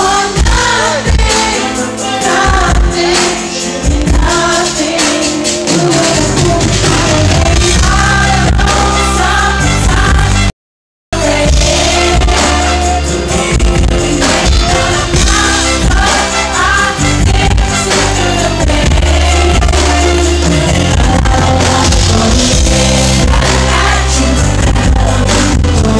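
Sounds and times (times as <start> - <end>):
live band with heavy bass: 0.0 - 10.5, 11.2 - 25.9
person singing: 0.0 - 10.5, 11.2 - 25.9.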